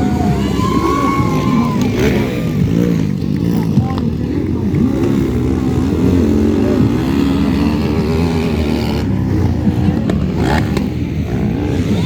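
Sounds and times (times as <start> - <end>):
motocross engines revving: 0.0 - 12.0.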